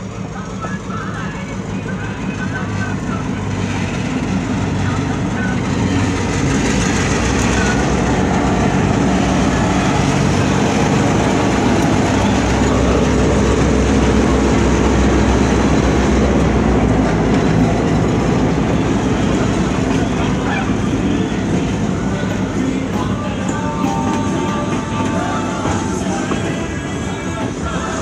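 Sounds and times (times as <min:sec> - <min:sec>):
diesel locomotive rumbling: 0:00.0 - 0:28.0
passenger cars rolling past: 0:00.0 - 0:28.0.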